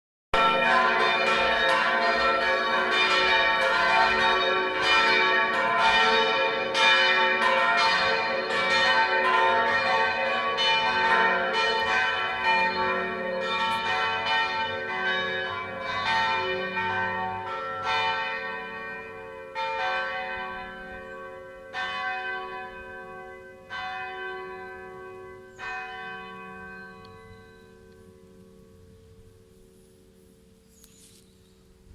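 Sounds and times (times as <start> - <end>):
church bells ringing: 0.4 - 30.6.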